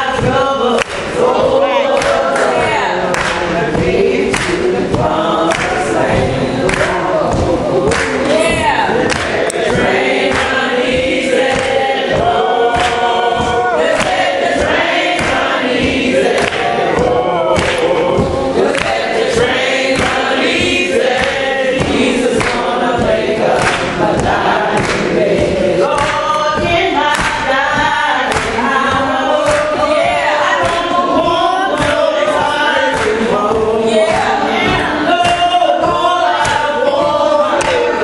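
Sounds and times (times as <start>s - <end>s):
group gospel singing: 0.0s - 38.0s
hand clapping: 0.1s - 38.0s.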